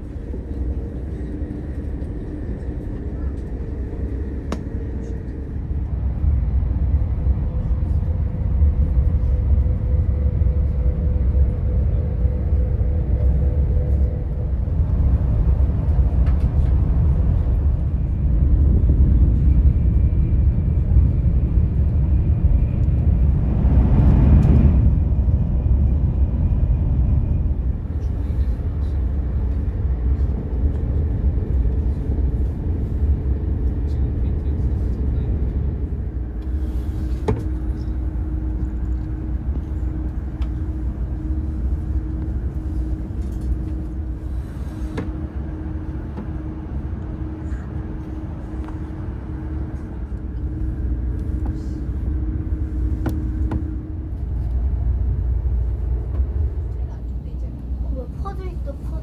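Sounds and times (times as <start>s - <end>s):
faint steady hum: 0.0s - 59.0s
train wheels and air rumble: 0.0s - 59.0s.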